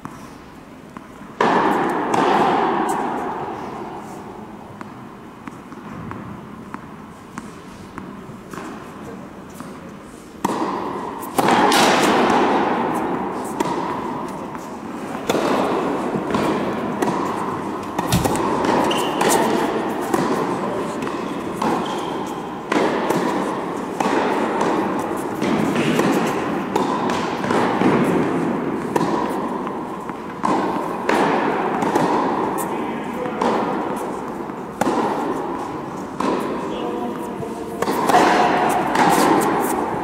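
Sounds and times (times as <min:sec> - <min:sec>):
tennis ball bouncing on court: 0:00.9 - 0:03.9, 0:04.7 - 0:08.9, 0:10.4 - 0:40.0
tennis racket strikes: 0:00.9 - 0:08.9, 0:09.5 - 0:40.0.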